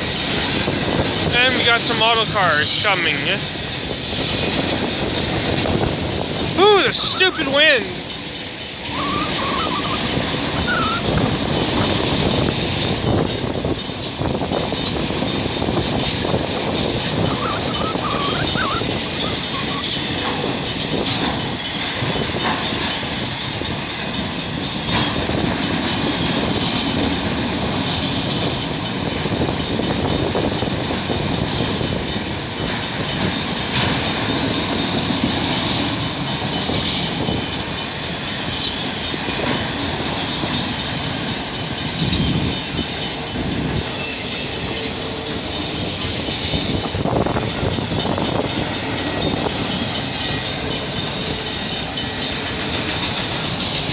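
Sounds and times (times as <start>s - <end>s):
clickety-clack over rail joints: 0.0s - 53.9s
freight train wheels rumbling: 0.0s - 53.9s.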